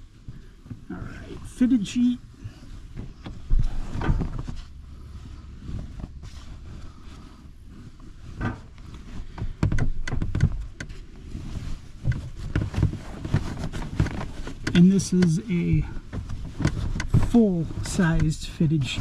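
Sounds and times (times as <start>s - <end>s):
low steady rumble: 0.0s - 19.0s
fabric rustling: 1.4s - 9.6s, 10.2s - 18.2s.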